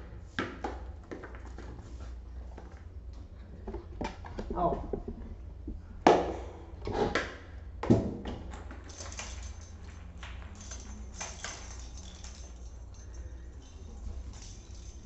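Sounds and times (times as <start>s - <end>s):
balls bouncing on tiled floor: 0.0s - 15.0s.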